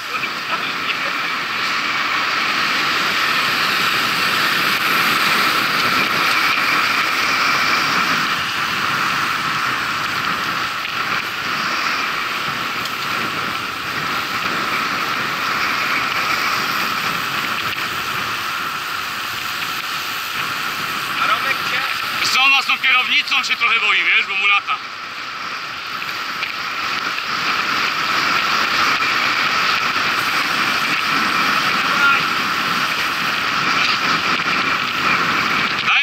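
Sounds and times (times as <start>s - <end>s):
steady rushing travel noise: 0.0s - 36.0s.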